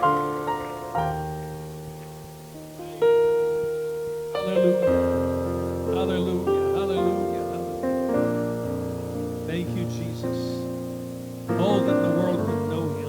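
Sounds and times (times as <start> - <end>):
keyboard playing slow chords: 0.0 - 13.0.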